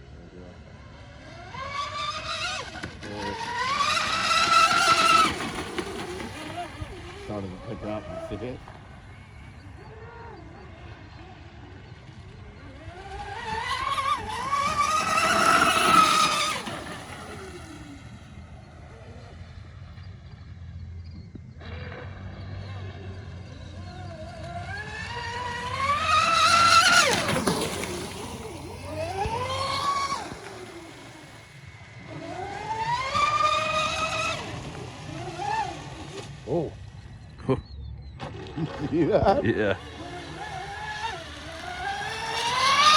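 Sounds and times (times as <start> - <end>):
electric boat drive whining: 0.0 - 42.9.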